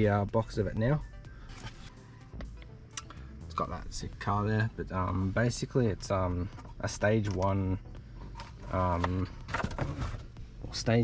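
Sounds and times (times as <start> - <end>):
faint music with held notes: 0.0 - 11.0.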